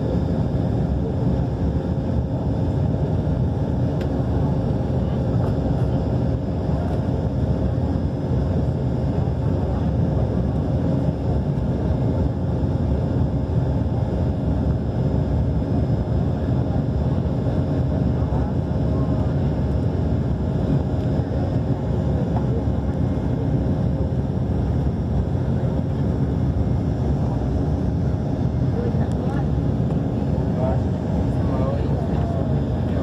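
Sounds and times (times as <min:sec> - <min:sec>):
airliner engine rumble in cabin: 0:00.0 - 0:33.0.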